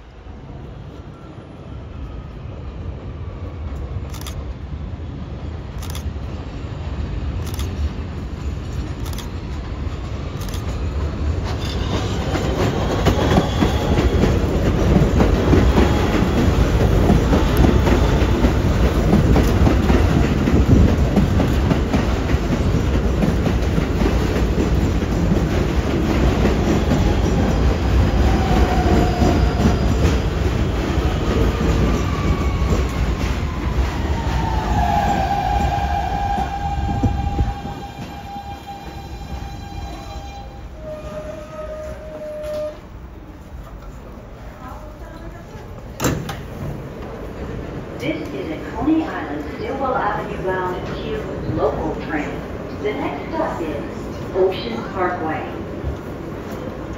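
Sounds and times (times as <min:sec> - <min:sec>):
subway train rumble: 0:00.0 - 0:56.9.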